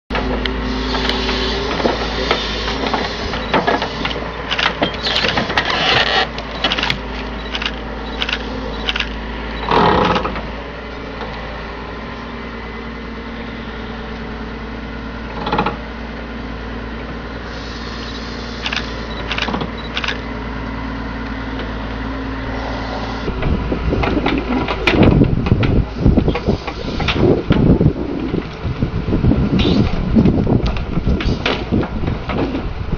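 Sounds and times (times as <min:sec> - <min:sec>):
excavator engine running: 0:00.1 - 0:32.9.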